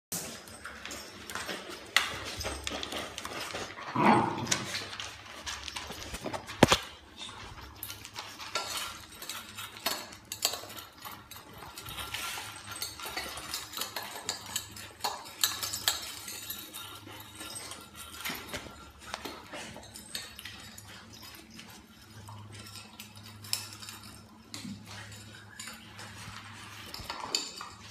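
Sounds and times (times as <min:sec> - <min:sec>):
dogs eating from plastic bowl: 0:00.1 - 0:27.9
kibble and bowl clinking: 0:00.1 - 0:27.9.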